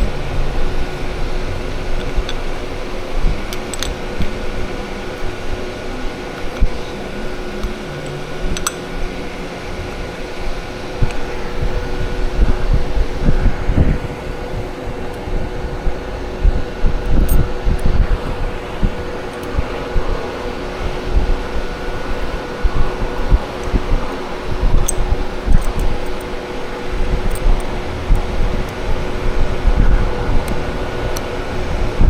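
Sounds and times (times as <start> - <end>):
faint steady tones: 0.0 - 32.0
mechanical hum: 0.0 - 32.0
uneven low rumble: 0.0 - 32.0.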